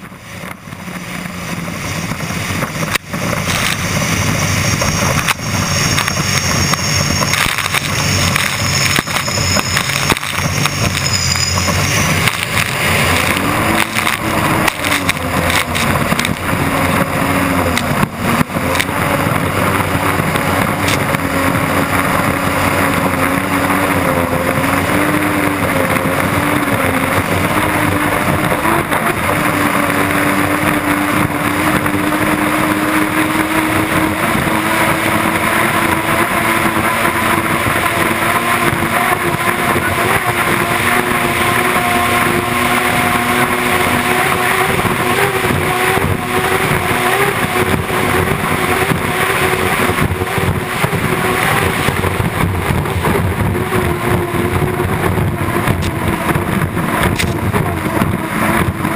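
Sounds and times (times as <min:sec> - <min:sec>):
rushing wind: 0:00.0 - 0:58.9
turbine engine drone: 0:00.0 - 0:58.9.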